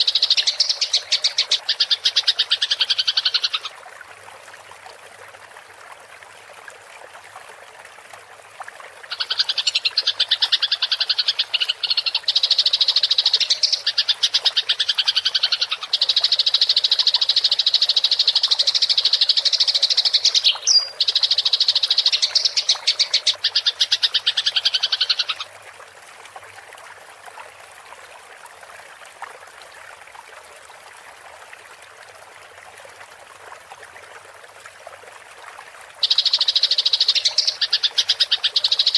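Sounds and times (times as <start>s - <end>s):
trickle of water: 0.0s - 38.9s.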